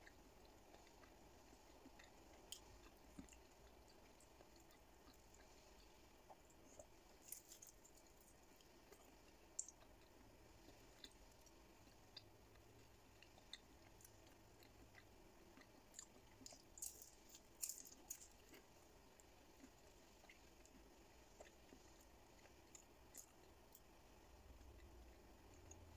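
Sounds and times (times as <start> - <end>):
person chewing: 0.0 - 23.9.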